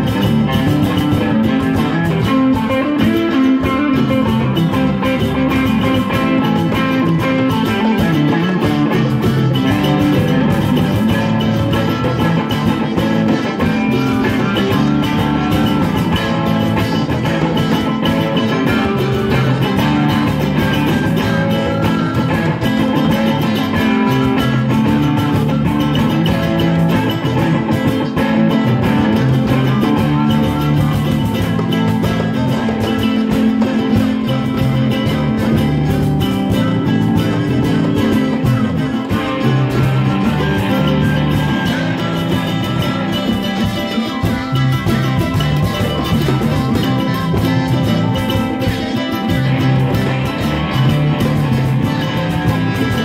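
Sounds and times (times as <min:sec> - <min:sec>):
rock band playing: 0:00.0 - 0:53.0.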